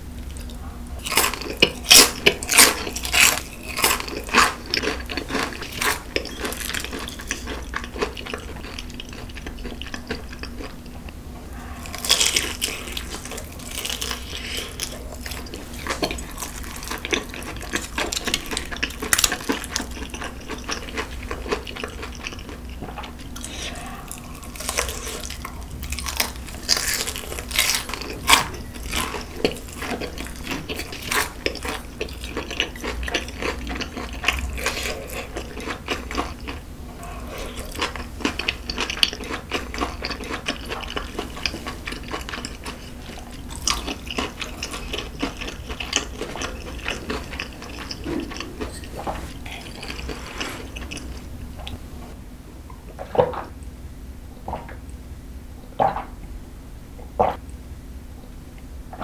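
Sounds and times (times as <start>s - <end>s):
close-miked chewing and crunching: 0.1s - 52.2s.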